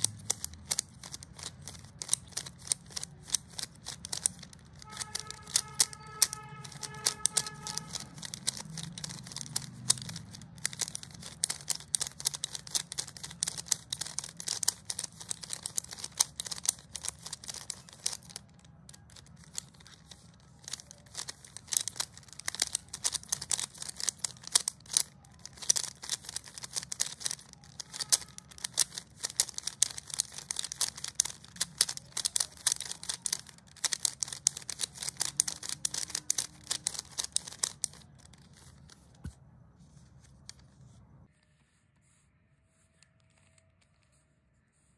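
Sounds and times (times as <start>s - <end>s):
plastic puzzle cube clicking: 0.0s - 39.3s.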